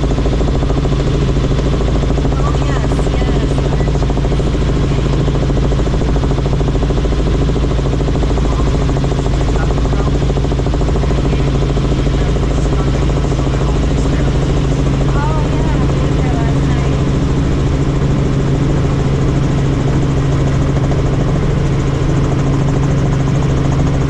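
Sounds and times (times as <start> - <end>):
helicopter rotor and engine noise: 0.0 - 24.0.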